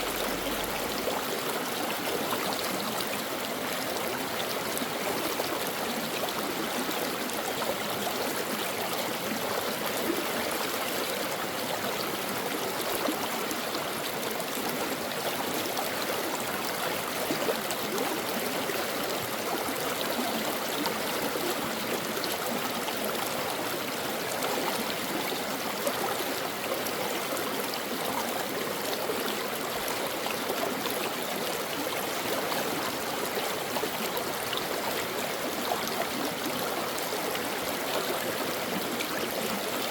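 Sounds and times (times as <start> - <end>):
stream water gurgling over rocks: 0.0 - 39.9.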